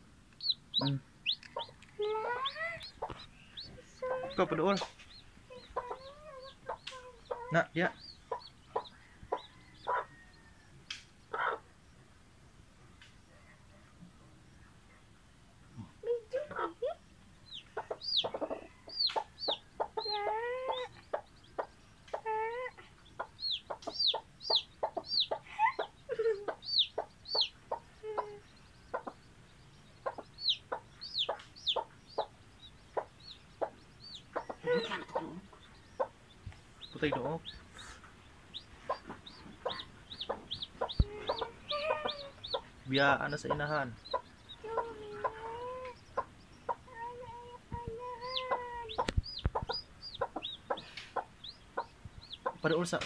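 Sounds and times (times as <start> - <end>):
chick peeping: 0.0 - 12.3, 13.0 - 53.0
chicken clucking: 0.3 - 11.7, 15.6 - 53.0.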